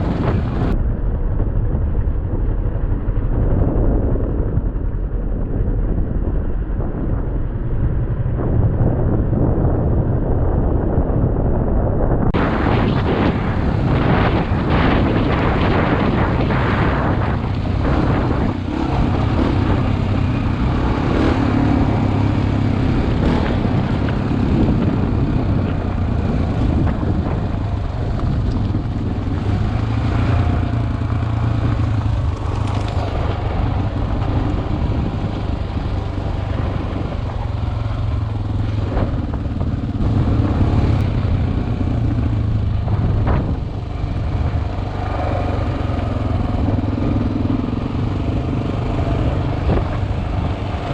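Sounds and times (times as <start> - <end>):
motorcycle engine running: 0.0 - 11.6, 12.3 - 50.9.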